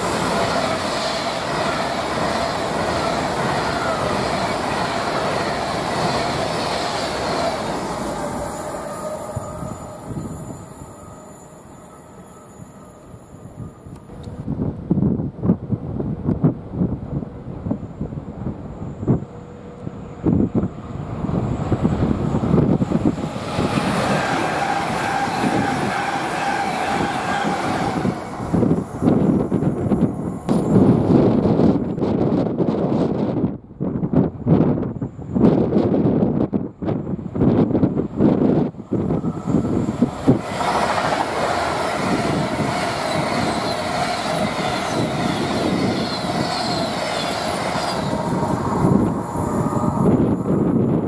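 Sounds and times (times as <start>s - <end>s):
wind buffeting microphone: 0.0s - 11.1s, 13.1s - 51.0s
train passing at speed: 0.0s - 51.0s.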